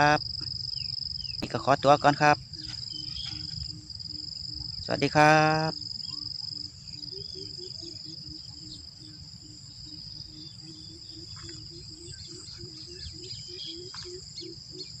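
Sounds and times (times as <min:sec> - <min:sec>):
crickets and insects chorus: 0:00.0 - 0:15.0
low pulsing call: 0:00.0 - 0:15.0.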